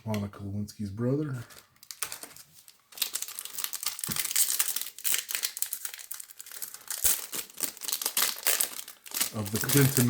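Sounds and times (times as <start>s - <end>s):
plastic wrapper crinkling: 1.4s - 10.0s.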